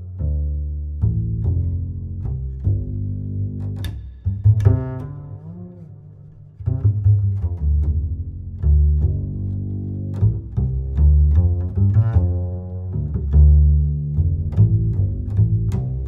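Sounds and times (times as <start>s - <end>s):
background music with bass line: 0.0s - 16.0s.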